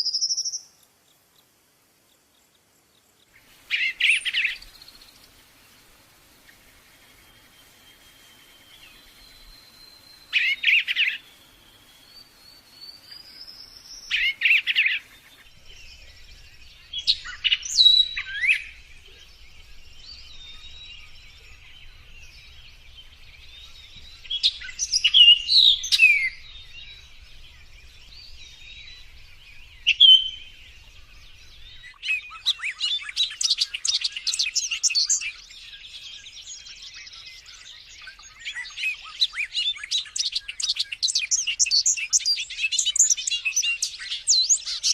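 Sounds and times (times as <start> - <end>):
birds chirping and singing: 3.2 - 44.9.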